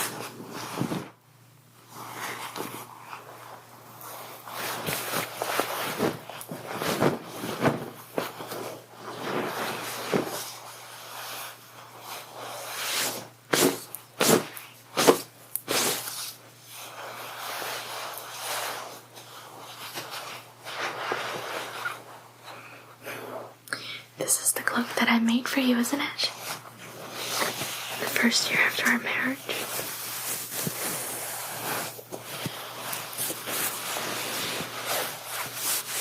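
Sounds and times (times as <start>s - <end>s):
heavy cloth rustling: 0.0s - 23.6s, 26.3s - 36.0s.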